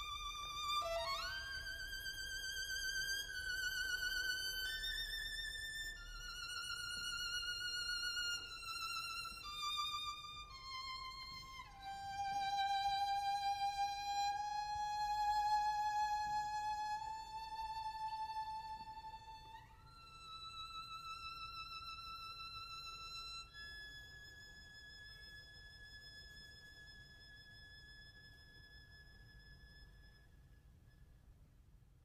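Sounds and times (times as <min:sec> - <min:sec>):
solo violin with vibrato: 0:00.0 - 0:30.5.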